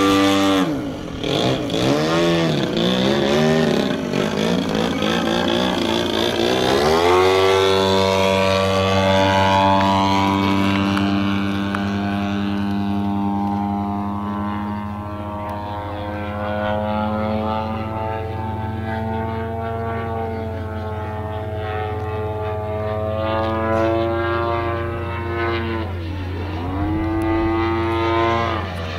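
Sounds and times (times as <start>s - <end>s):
model plane engine and propeller: 0.0s - 28.9s.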